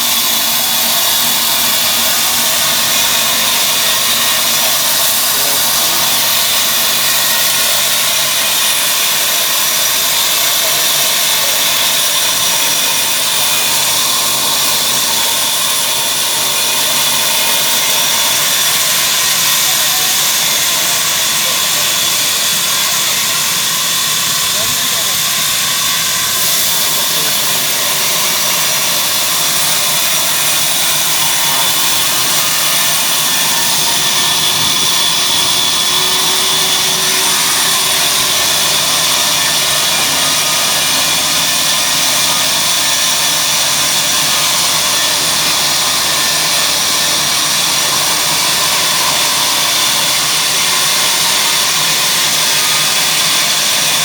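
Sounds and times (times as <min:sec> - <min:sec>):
wood-cutting machine running: 0:00.0 - 0:54.0.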